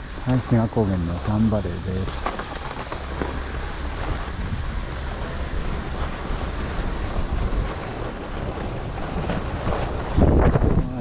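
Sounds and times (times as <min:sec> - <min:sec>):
skis sliding over snow: 0:00.0 - 0:11.0
wind buffeting microphone: 0:00.0 - 0:11.0.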